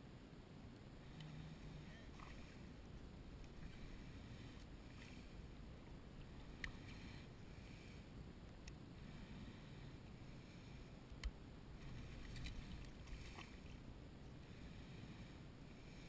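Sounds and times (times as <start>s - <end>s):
faint water: 0.0s - 16.0s
wind: 0.0s - 16.0s.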